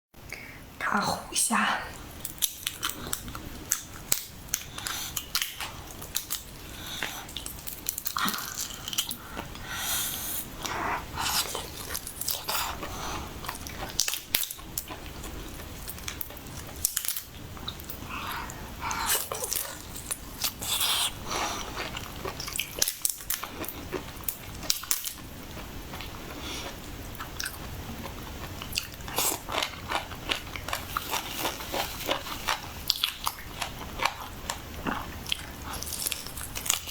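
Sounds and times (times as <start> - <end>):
food crunching: 2.2 - 9.6, 10.6 - 36.9
person chewing and biting: 2.2 - 36.9.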